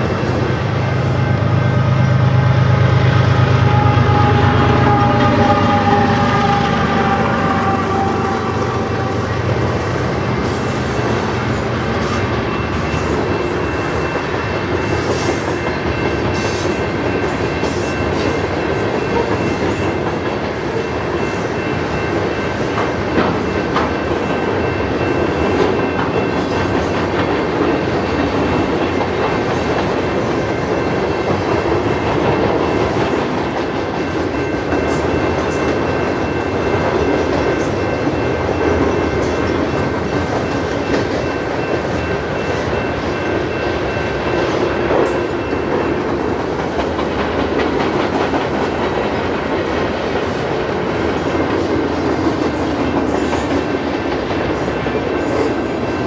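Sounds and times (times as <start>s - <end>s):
train wheels rumbling on rails: 0.0s - 56.0s
rhythmic clickety-clack: 10.4s - 56.0s.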